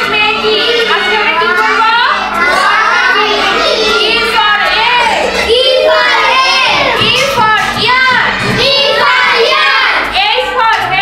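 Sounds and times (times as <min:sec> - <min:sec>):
children chanting in chorus: 0:00.0 - 0:10.2.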